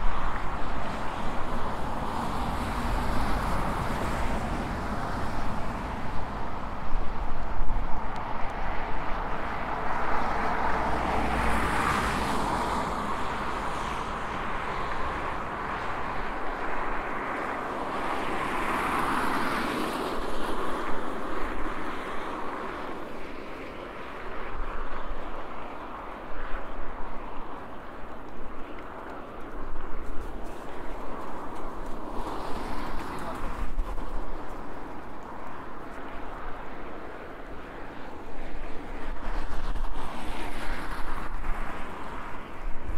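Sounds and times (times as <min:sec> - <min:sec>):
road traffic hum: 0:00.0 - 0:42.9.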